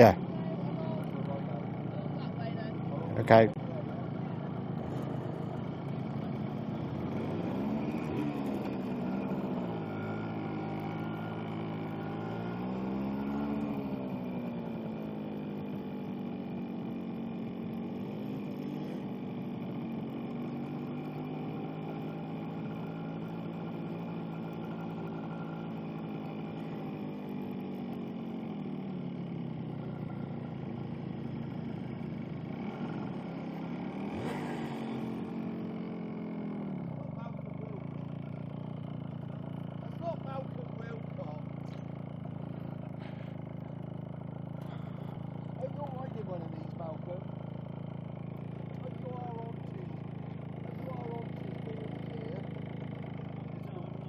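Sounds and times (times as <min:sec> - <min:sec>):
two-stroke motorcycle engine: 0:00.0 - 0:54.0.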